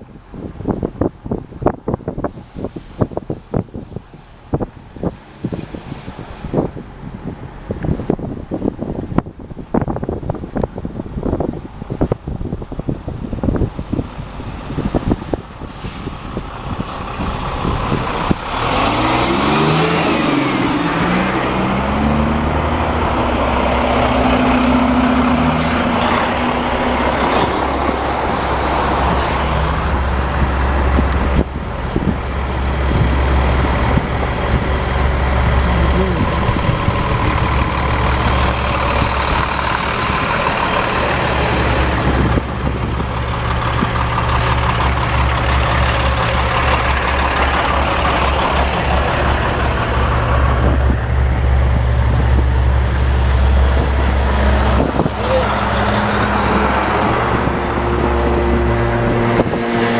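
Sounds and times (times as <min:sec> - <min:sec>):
truck diesel engine shifting gears: 0:00.0 - 0:59.9.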